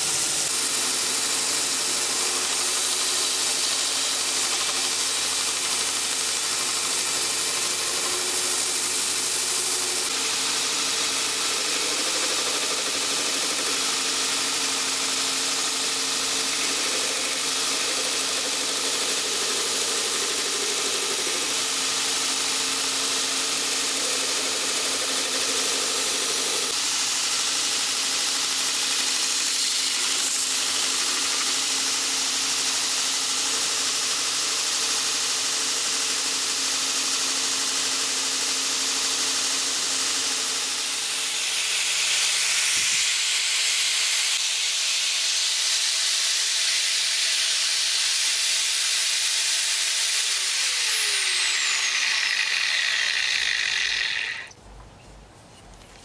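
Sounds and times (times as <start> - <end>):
electric hand sander: 0.0 - 54.5
belt grinder shaping wood: 0.0 - 54.6.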